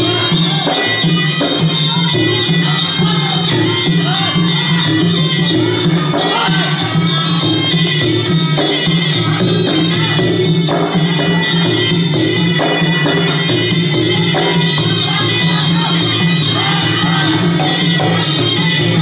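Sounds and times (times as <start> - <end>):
small hand cymbals: 0.0 - 19.0.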